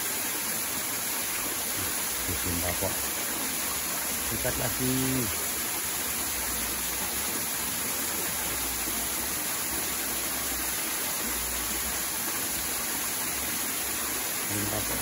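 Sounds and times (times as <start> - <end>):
stream water running over rocks: 0.0 - 15.0.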